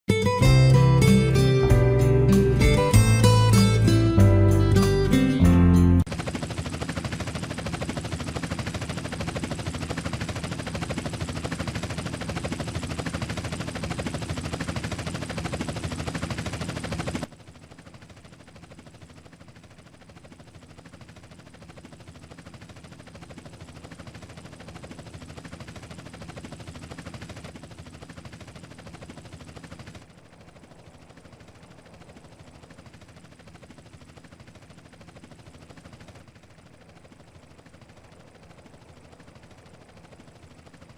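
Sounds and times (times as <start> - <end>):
helicopter rotor chop: 0.1 - 40.9.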